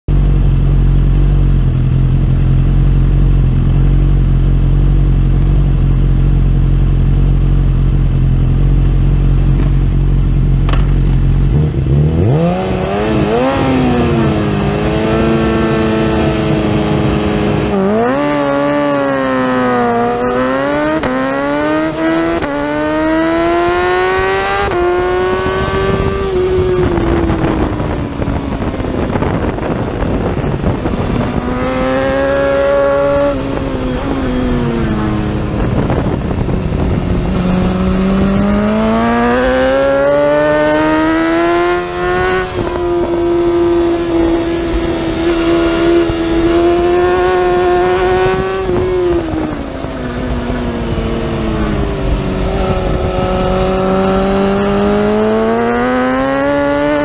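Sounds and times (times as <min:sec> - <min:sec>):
motorcycle engine revving: 0:00.1 - 0:57.0.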